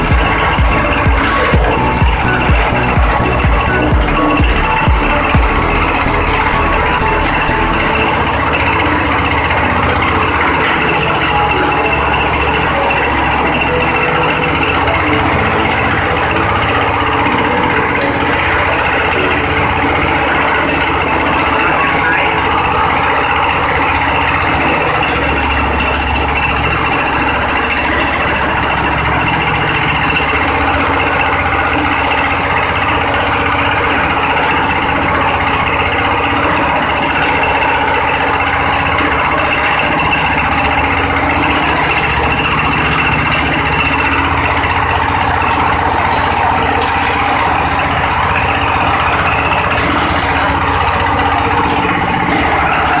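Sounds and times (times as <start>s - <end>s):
shredding machine running: 0.0s - 53.0s.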